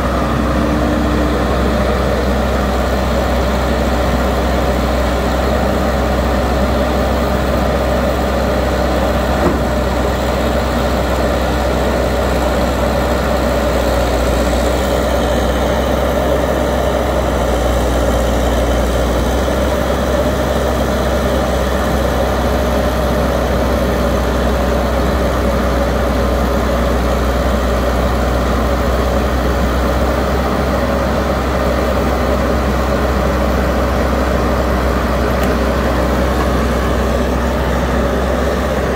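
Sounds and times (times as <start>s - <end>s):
excavator diesel engine humming: 0.0s - 38.9s.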